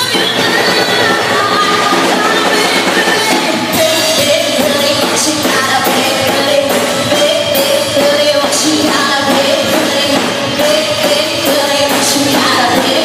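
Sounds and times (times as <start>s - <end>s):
band playing pop-rock: 0.0s - 13.0s
woman singing: 0.0s - 13.0s.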